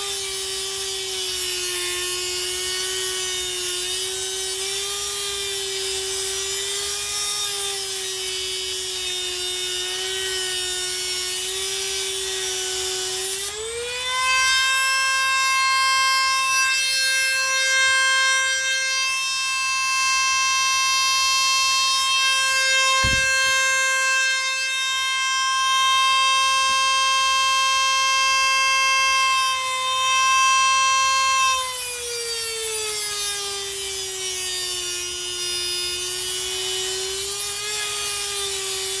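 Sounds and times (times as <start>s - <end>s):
rotary tool whining: 0.0s - 39.0s.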